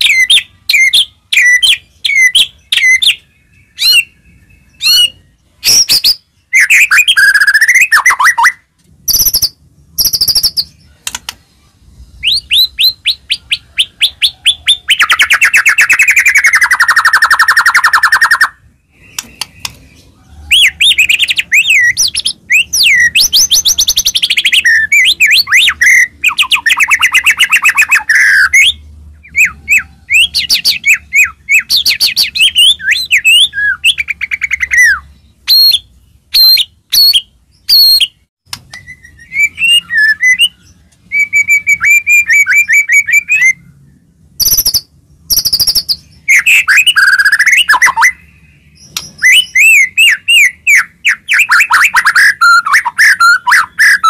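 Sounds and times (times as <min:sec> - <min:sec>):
songbird singing whistles and trills: 0:00.0 - 0:11.2, 0:12.0 - 0:54.0.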